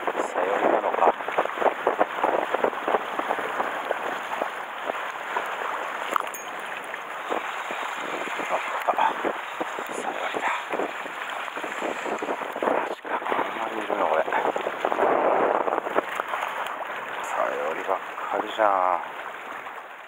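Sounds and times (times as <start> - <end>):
wind buffeting microphone: 0.0 - 19.7
sea water splashing on rocks: 0.0 - 20.0.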